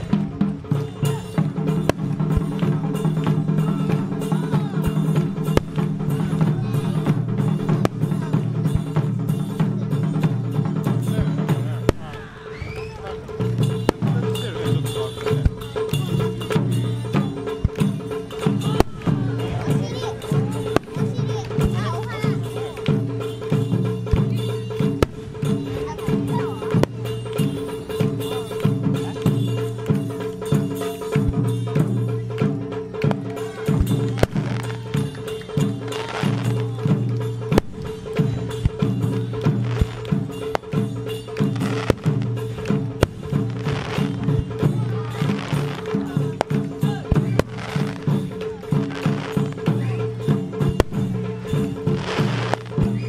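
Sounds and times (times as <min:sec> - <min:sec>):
music with steady drum beat: 0:00.0 - 0:53.0.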